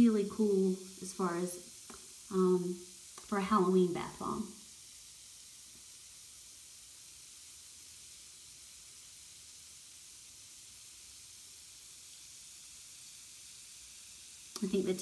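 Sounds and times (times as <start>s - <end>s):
bath bomb fizzing in water: 0.0s - 15.0s.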